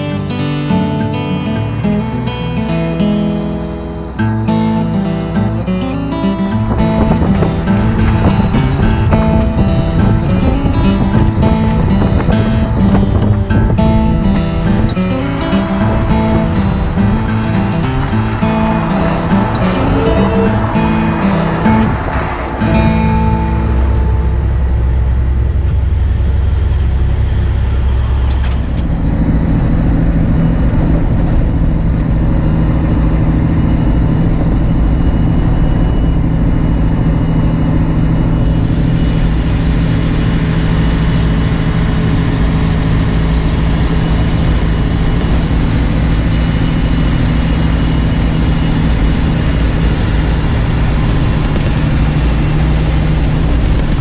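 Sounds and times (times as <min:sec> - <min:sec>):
large engine running: 0:00.0 - 0:54.0.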